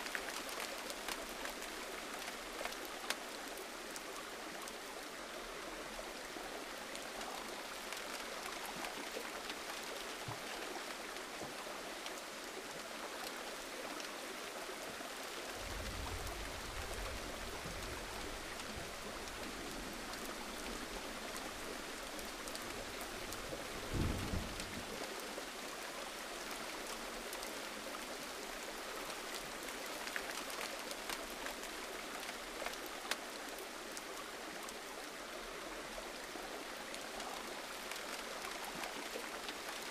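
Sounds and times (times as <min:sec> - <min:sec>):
gentle rain hissing: 0:00.0 - 0:39.9.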